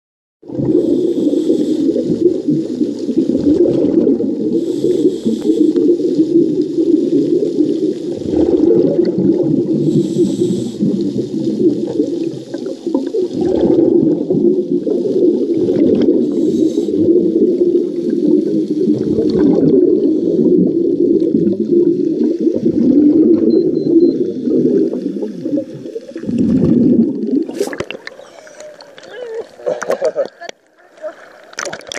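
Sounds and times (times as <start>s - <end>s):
bubble hiss bursts: 0.4s - 28.6s
underwater bubbles rumbling: 0.4s - 30.2s.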